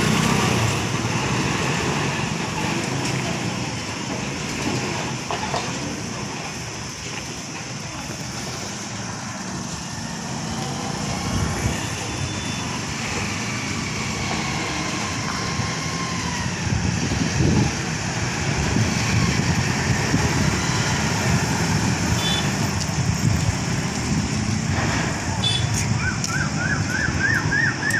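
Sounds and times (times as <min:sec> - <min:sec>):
truck engines running: 0:00.0 - 0:27.9
tyres on road: 0:00.0 - 0:27.9.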